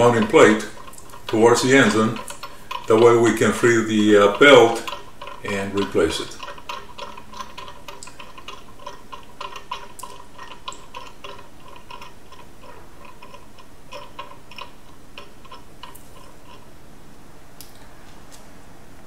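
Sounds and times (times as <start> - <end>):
ratcheting wrench clicking: 0.0 - 16.7.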